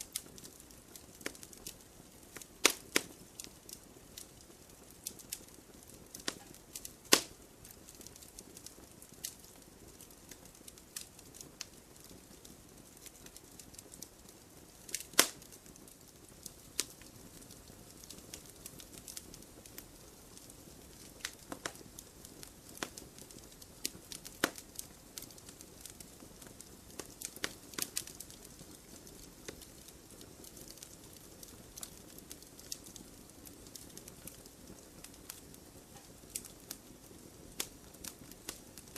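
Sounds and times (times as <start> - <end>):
campfire wood crackling and popping: 0.0 - 38.9
faint low hiss: 0.0 - 38.9.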